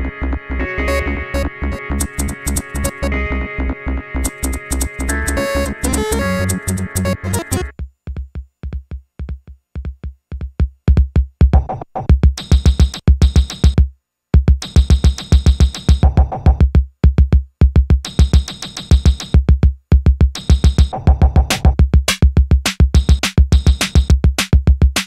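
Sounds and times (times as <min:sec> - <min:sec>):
techno kick-drum beat: 0:01.4 - 0:03.2, 0:04.2 - 0:25.0.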